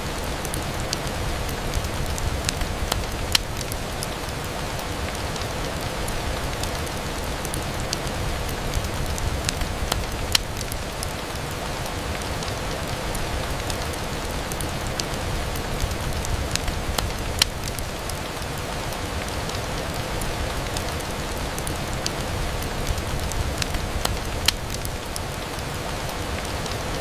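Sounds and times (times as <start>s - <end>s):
rain on a window: 0.0s - 27.0s
sharp ticks and pops: 0.2s - 15.2s, 15.8s - 20.0s, 20.6s - 27.0s.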